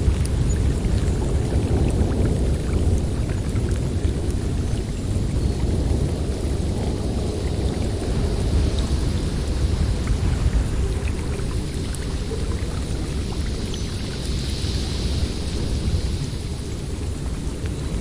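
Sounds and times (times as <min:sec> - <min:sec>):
blizzard wind through forest: 0:00.0 - 0:18.0.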